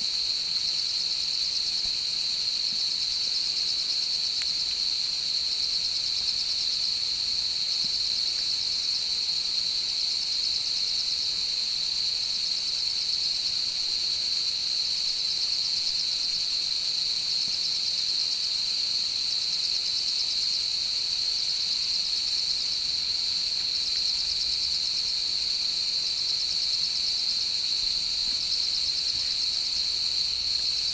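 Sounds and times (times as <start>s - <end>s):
steady high insect trill: 0.0s - 30.9s.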